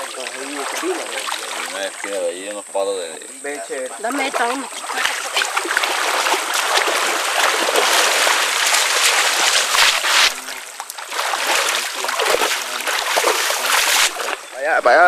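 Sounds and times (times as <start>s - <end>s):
water splashing off wet weed: 0.0s - 2.5s, 4.0s - 14.5s.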